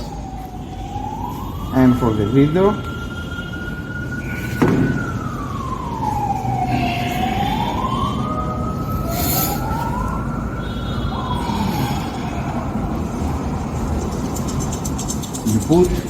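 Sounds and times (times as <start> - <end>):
siren wailing: 0.0 - 14.6.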